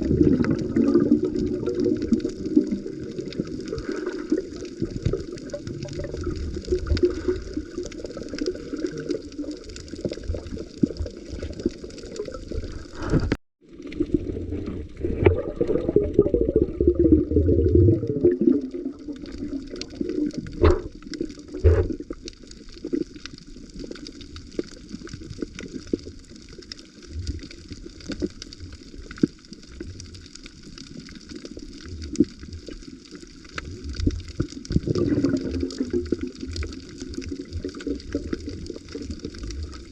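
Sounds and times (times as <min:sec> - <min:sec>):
underwater water wash and gurgling: 0:00.0 - 0:39.9.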